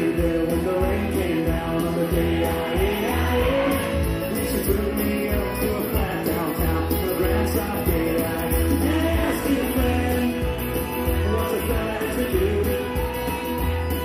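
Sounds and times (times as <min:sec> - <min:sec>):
person singing: 0:00.0 - 0:14.0
rock and roll dance music: 0:00.0 - 0:14.0.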